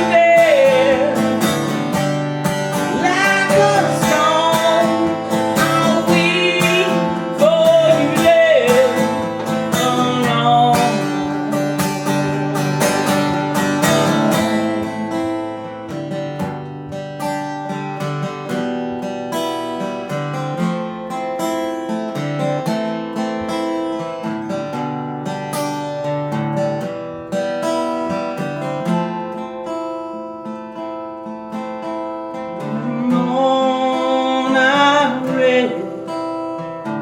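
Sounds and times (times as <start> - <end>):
acoustic guitar playing: 0.0 - 37.0.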